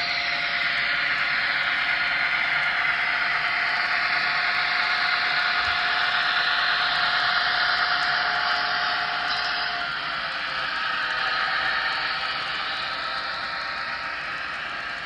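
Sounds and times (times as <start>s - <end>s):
model train speaker hiss: 0.0s - 15.0s
model train wheels rolling: 0.0s - 15.0s.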